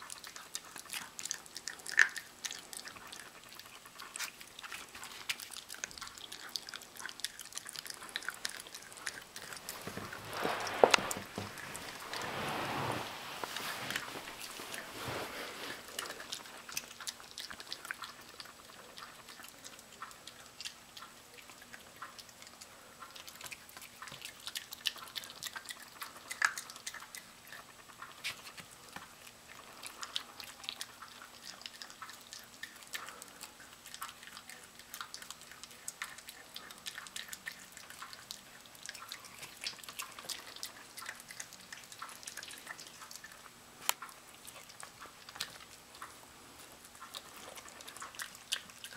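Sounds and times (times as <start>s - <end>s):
dog chewing raw chicken: 0.0s - 12.2s, 15.5s - 48.9s.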